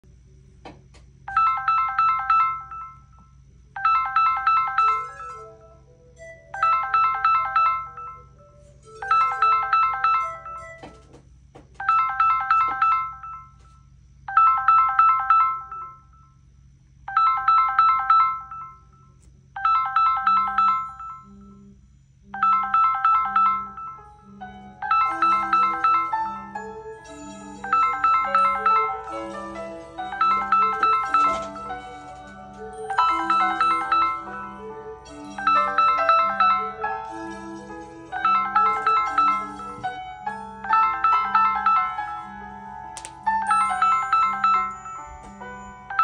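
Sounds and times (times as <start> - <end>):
trilling ringtone pips: 1.3 - 3.2, 3.8 - 11.0, 11.8 - 13.7, 14.3 - 16.3, 17.1 - 21.6, 22.4 - 46.0.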